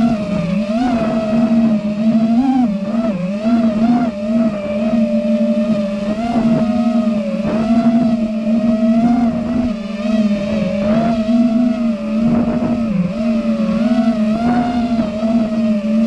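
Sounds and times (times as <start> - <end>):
quadcopter motors buzzing: 0.0 - 16.0.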